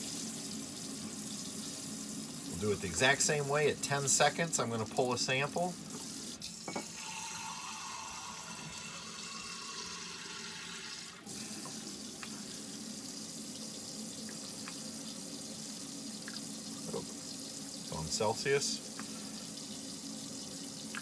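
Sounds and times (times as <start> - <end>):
water running from faucet: 0.0 - 21.0.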